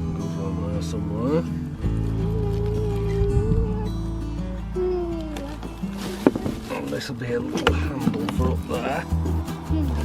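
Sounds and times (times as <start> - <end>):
held low notes: 0.0 - 10.0
slow melody line: 0.0 - 10.0.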